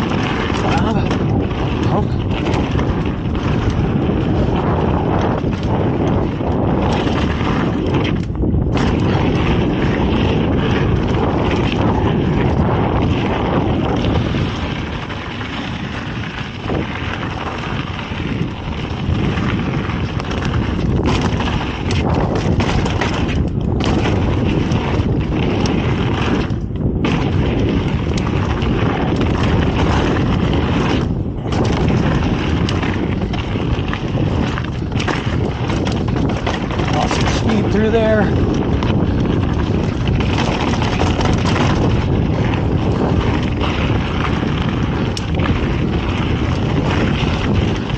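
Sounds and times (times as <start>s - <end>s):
bike knocks and rattles: 0.0s - 47.9s
bike tyres rumbling over dirt: 0.0s - 47.9s
wind buffeting microphone: 0.0s - 47.9s.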